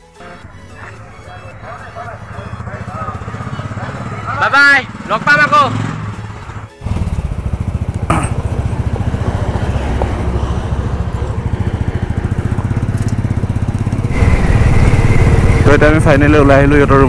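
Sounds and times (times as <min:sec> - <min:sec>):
motorcycle engine running: 0:00.2 - 0:17.0.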